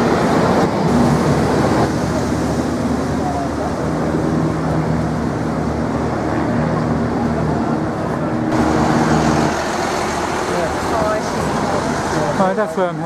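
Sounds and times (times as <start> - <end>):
passing traffic: 0.0 - 13.0
vehicle engine humming: 0.0 - 13.0.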